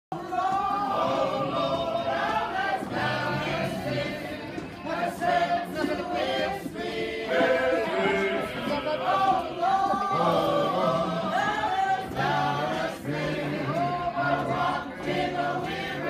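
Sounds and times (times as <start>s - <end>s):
mixed choir singing: 0.1s - 16.0s.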